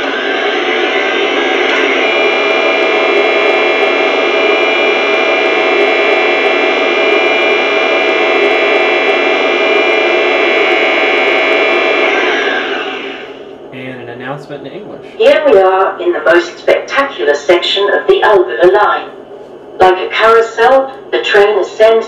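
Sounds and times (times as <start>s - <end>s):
locomotive hum with high whine: 0.0s - 22.0s.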